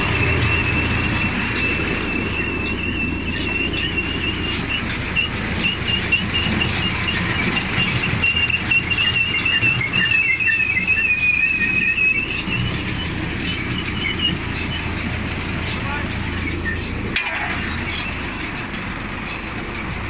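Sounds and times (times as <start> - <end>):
baler mechanical rumble: 0.0 - 20.0
high wavering squeal: 0.0 - 20.0.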